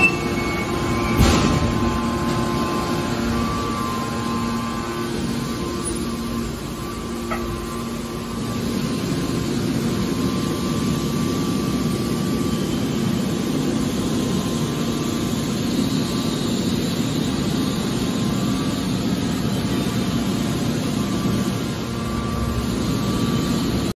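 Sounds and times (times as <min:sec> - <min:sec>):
faint steady whine: 0:00.0 - 0:23.9
hydraulic baler drone: 0:00.0 - 0:23.9.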